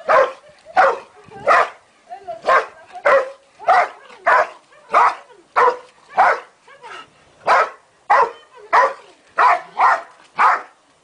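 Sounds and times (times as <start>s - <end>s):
dog barking: 0.1s - 1.7s, 2.5s - 6.5s, 7.4s - 10.7s.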